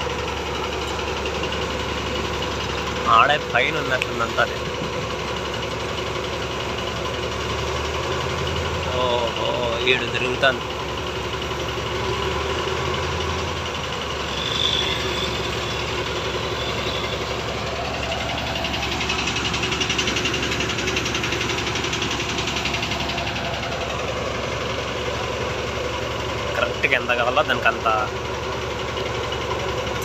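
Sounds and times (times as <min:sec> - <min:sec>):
crane engine running: 0:00.0 - 0:30.0.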